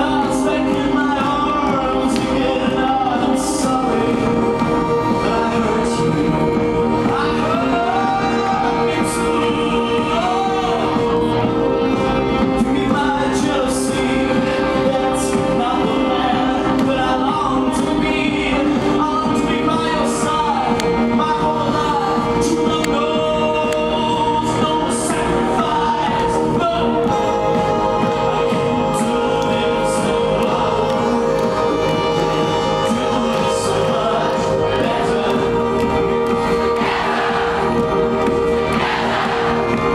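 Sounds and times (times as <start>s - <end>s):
live band playing a held chord: 0.0s - 39.9s
person singing: 0.0s - 39.9s
sustained backing notes: 0.0s - 39.9s
violin: 0.0s - 39.9s.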